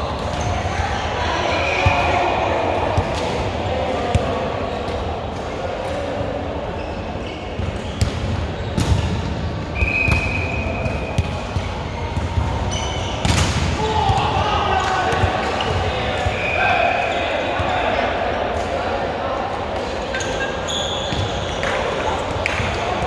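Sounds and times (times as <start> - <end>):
chatter echoing in hall: 0.0 - 23.0.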